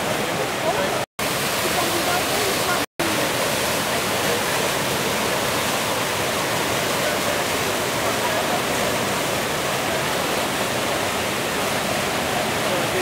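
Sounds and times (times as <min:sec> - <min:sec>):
fast whitewater rushing: 0:00.0 - 0:13.0.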